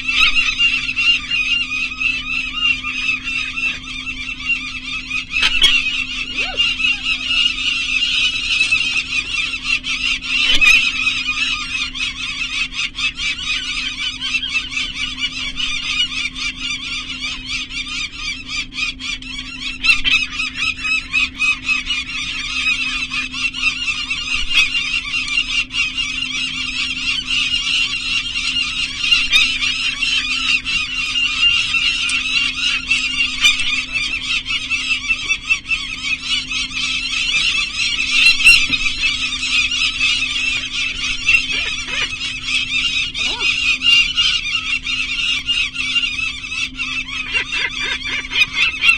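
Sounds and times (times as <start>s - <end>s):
falcons cackling alarm calls: 0.0s - 48.9s
low hum: 0.0s - 48.9s.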